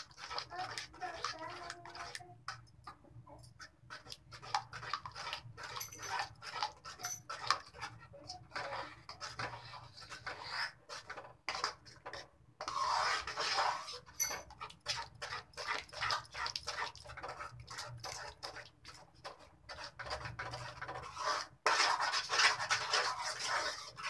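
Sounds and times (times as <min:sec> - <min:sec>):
metal spoon scraping pan: 0:00.0 - 0:24.0.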